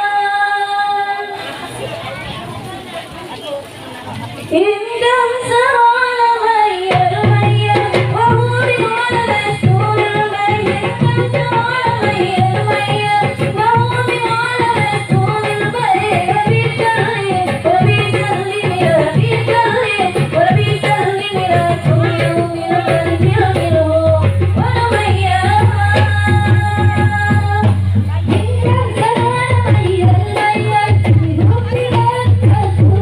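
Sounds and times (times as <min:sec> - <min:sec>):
person singing devotional song: 0:04.5 - 0:33.0
hand drums beating: 0:06.6 - 0:33.0.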